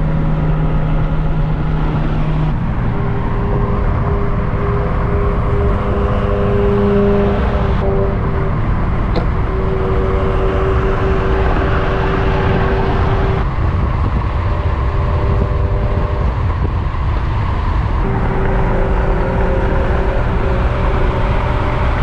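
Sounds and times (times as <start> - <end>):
car engine and road rumble: 0.0 - 22.0
faint steady drone: 0.0 - 22.0.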